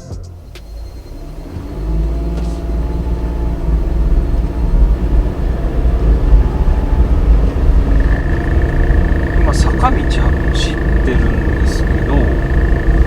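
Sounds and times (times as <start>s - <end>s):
car engine rumble: 0.0s - 13.0s
thin high buzz: 0.3s - 13.0s.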